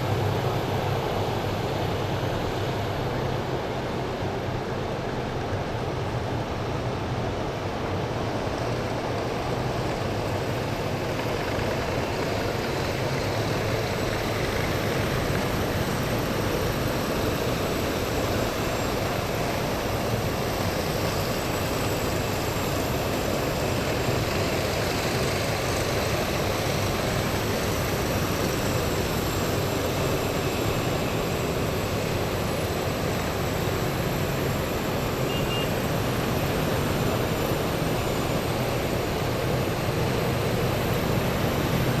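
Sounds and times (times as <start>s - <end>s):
heavy vehicle engines running: 0.0s - 42.0s.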